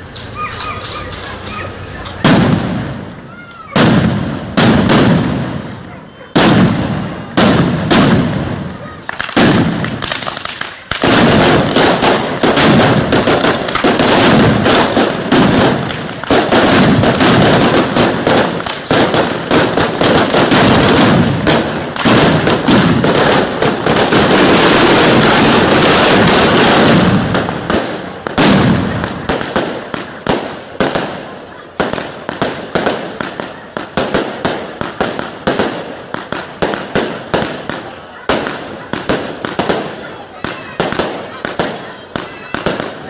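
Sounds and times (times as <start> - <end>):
firecracker bangs and crackles: 0.0 - 43.0.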